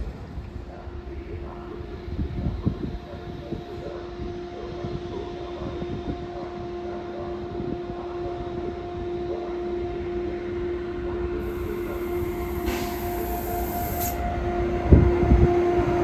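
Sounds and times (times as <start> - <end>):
train humming and rumbling: 0.0 - 16.0.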